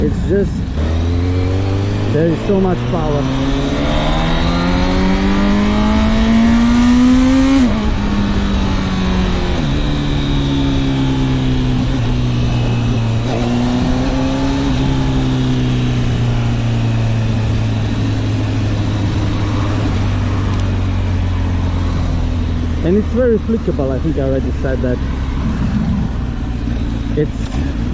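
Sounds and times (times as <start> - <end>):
motorcycle engine accelerating: 0.0 - 27.9
wind and road noise: 0.0 - 27.9.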